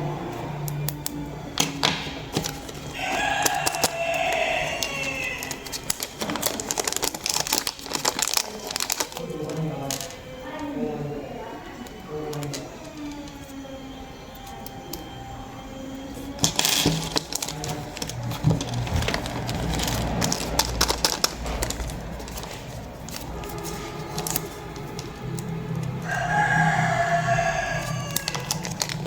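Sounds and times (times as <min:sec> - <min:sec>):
background music: 0:00.0 - 0:29.0
packaging crinkling and clicking: 0:00.6 - 0:10.7, 0:11.8 - 0:15.2, 0:16.0 - 0:29.0.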